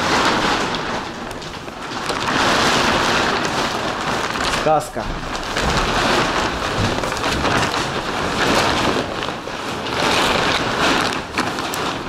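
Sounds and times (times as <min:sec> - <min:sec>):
tarpaulin rustling and flapping: 0:00.0 - 0:12.0.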